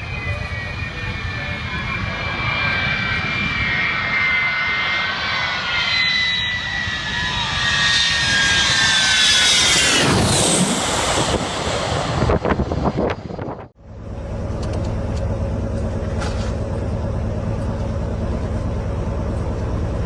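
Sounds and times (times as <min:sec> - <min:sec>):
high jet whine: 0:00.0 - 0:20.0
jet engines roaring: 0:00.0 - 0:20.0.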